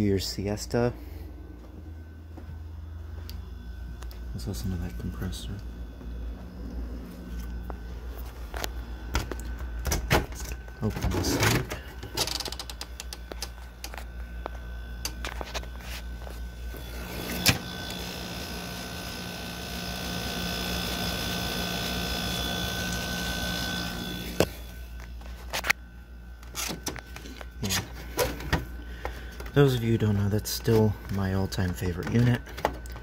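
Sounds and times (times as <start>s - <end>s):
air conditioner compressor hum: 0.0s - 33.0s.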